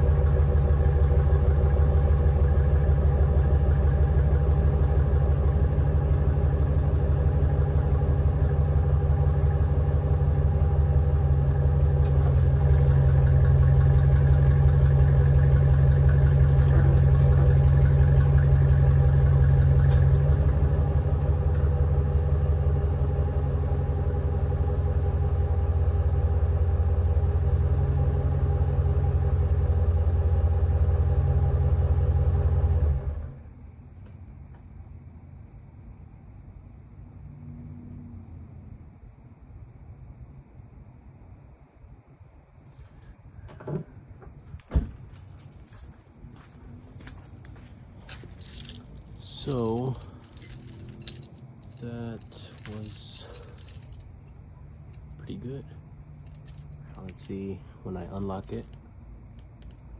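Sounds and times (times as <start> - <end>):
pickup truck engine idling: 0.0 - 33.4, 43.3 - 58.7.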